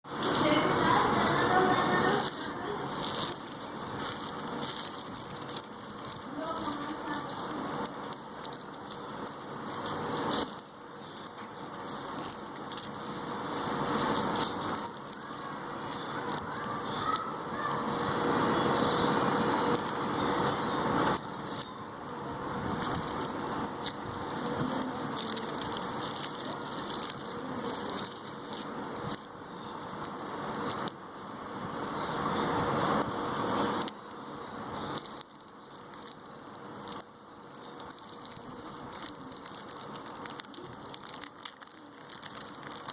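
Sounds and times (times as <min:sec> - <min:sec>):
plastic packaging crinkling: 0:00.4 - 0:31.0, 0:34.8 - 0:42.9.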